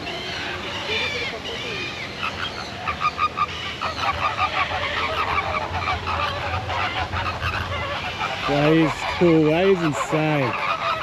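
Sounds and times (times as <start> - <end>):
geese honking: 0.3 - 11.0.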